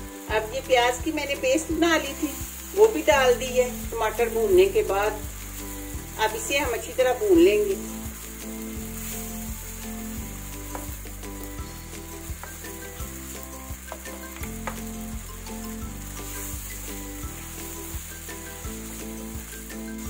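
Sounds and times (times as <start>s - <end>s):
paste sizzling in hot oil: 0.0s - 20.0s.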